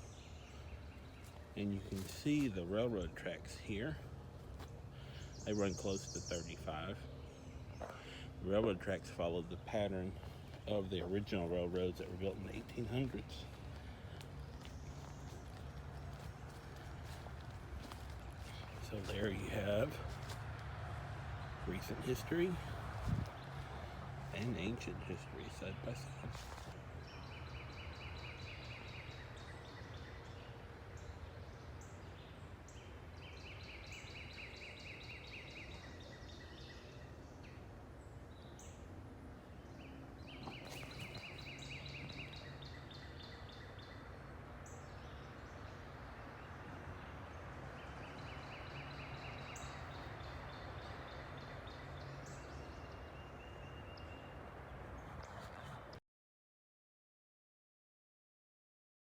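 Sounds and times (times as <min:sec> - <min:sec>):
birds trilling: 0:00.0 - 0:56.0.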